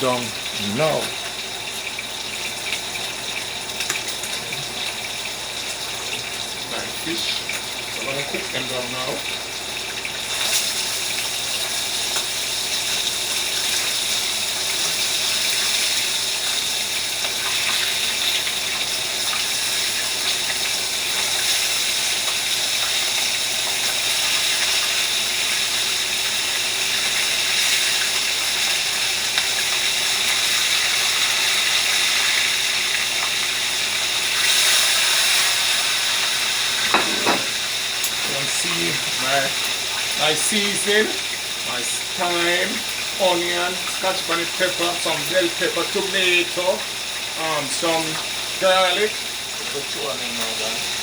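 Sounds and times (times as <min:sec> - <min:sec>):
fish sizzling in a pot: 0:00.0 - 0:51.0.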